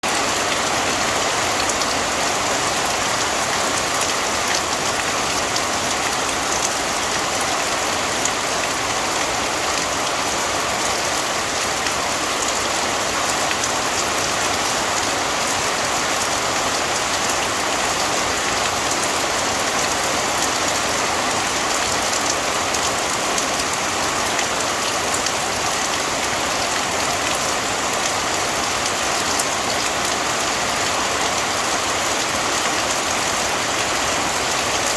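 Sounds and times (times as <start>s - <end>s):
heavy rain: 0.0s - 34.9s.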